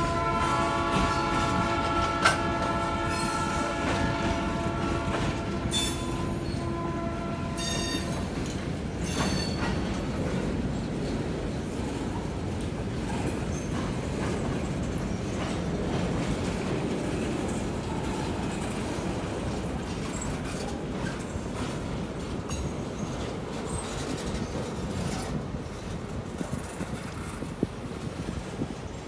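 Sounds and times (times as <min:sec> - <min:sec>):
train wheel clatter: 0:00.0 - 0:06.9, 0:07.6 - 0:29.0
freight train deep rumble: 0:00.0 - 0:29.0.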